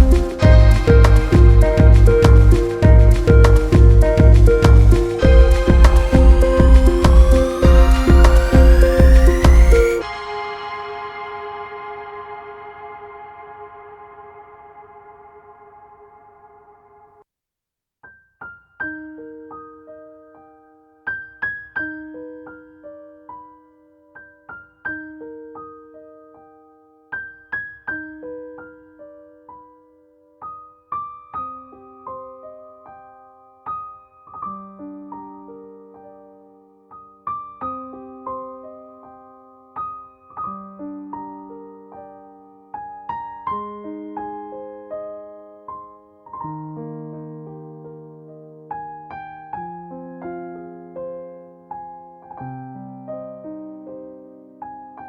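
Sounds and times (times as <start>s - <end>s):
gentle solo piano: 0.0s - 10.0s, 18.1s - 55.0s.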